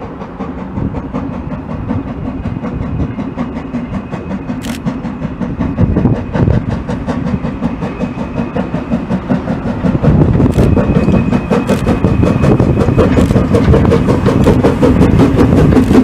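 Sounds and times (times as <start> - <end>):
steam locomotive exhaust beats: 0.0 - 16.0
train rumble: 0.0 - 16.0.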